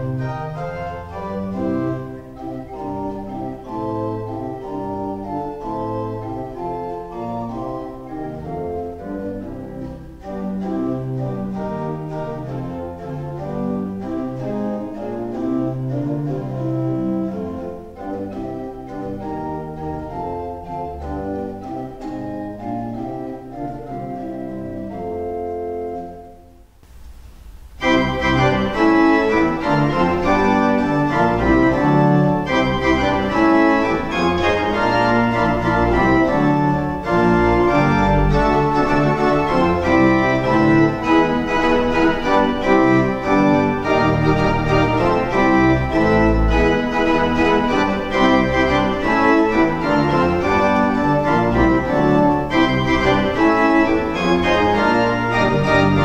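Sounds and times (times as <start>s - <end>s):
pipe organ playing: 0.0s - 26.8s, 27.8s - 56.0s.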